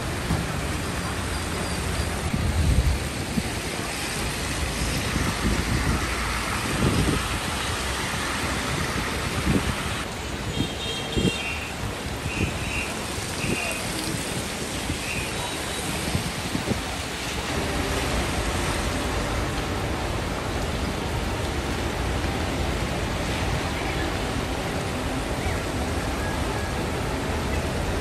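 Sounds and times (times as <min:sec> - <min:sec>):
rain hissing: 0:00.0 - 0:28.0
tyres on wet road: 0:00.0 - 0:28.0.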